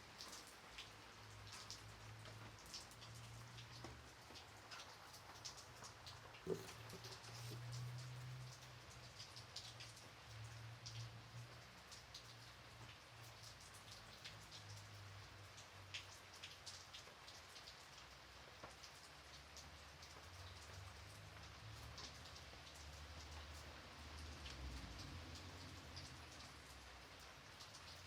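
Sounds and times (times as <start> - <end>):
light rain hissing: 0.0 - 28.0
raindrops ticking on a surface: 0.0 - 28.0.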